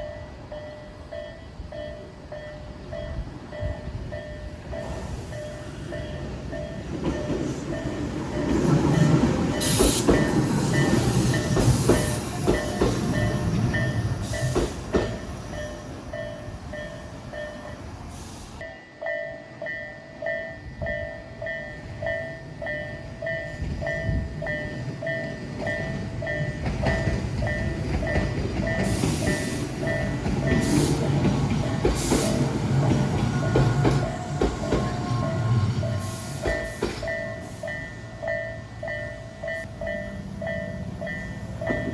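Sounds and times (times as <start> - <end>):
train wheels rumbling on rails: 1.7 - 18.7, 20.8 - 41.9.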